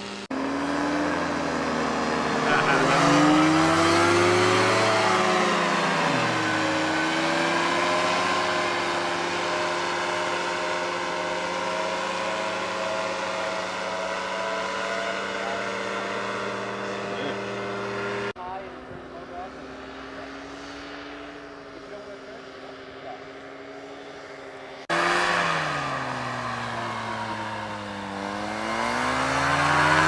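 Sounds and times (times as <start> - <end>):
aircraft engine and propeller droning: 0.0 - 30.0.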